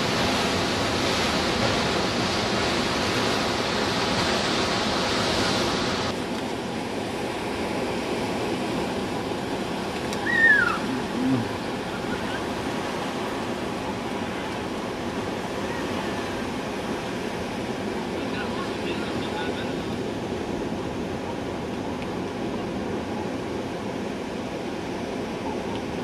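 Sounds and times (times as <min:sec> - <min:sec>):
water rushing over rocks: 0:00.0 - 0:26.0
waves on a sandy beach: 0:00.0 - 0:26.0.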